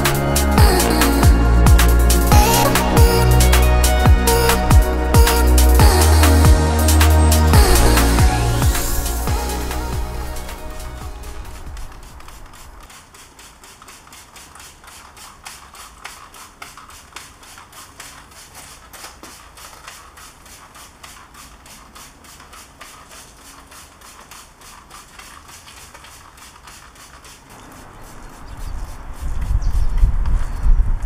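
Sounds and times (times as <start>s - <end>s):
spray bottle spritzing: 1.8s - 29.6s.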